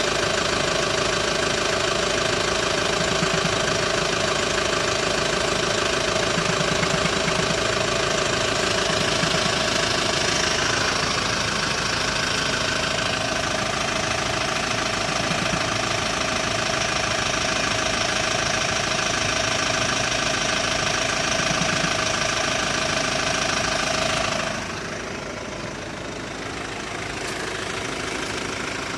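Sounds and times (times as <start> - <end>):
diesel engine idling: 0.0 - 28.9
irregular engine knock: 0.0 - 28.9.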